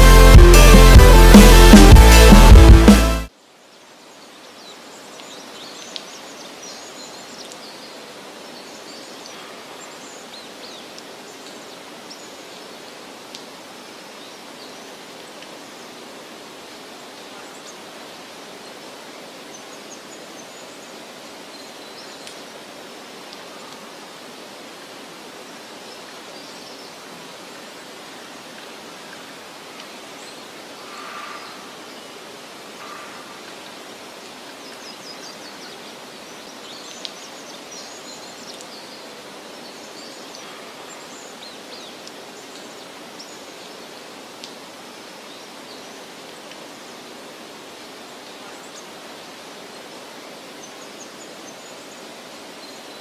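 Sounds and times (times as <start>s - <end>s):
steady background hiss: 3.3s - 53.0s.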